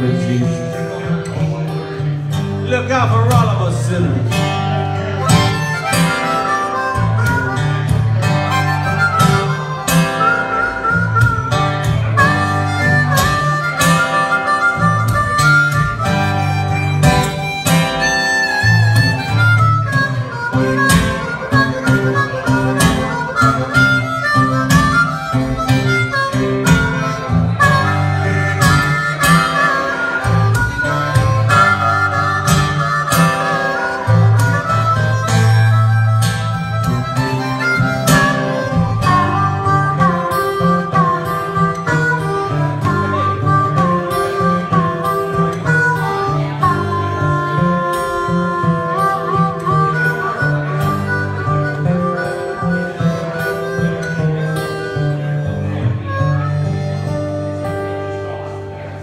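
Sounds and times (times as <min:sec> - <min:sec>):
acoustic guitar riff: 0:00.0 - 0:59.0
blues harmonica solo: 0:00.0 - 0:59.0.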